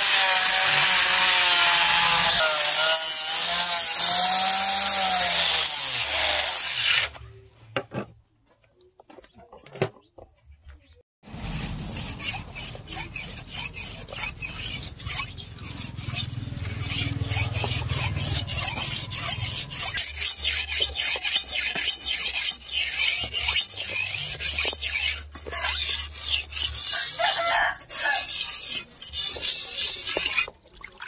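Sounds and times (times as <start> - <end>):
blade scraping on wet brick: 0.0 - 7.2, 11.3 - 31.0.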